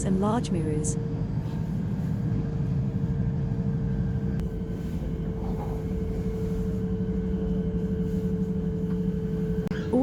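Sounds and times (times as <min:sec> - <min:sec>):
train interior rumble: 0:00.0 - 0:10.0.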